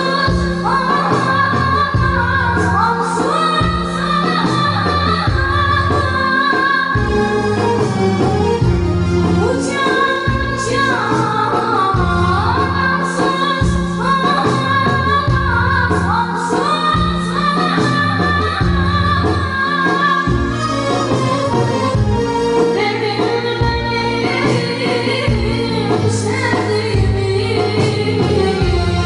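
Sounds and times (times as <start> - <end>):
instrumental backing with bass beat: 0.0 - 29.0.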